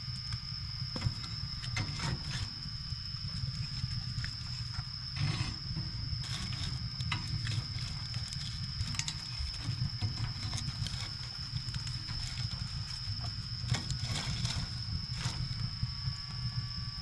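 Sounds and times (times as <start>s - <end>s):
fire crackling and popping: 0.0s - 17.0s
high-pitched whine: 0.0s - 17.0s.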